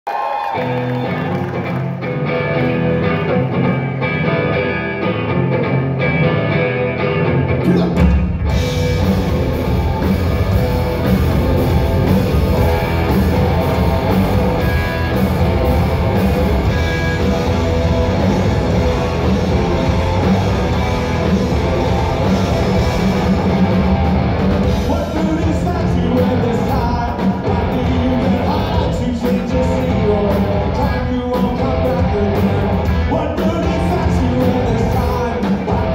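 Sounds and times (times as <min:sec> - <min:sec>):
guitar: 0:00.1 - 0:35.9
live rock band playing: 0:00.4 - 0:35.9.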